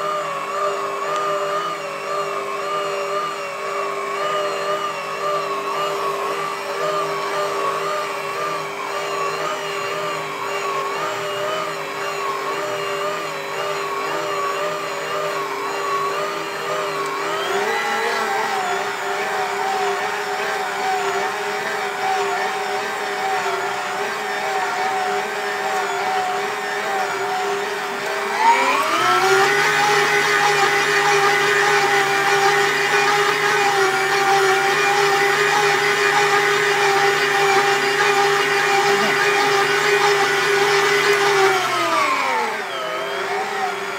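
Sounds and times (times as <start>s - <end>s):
stand mixer motor whining: 0.0s - 43.9s.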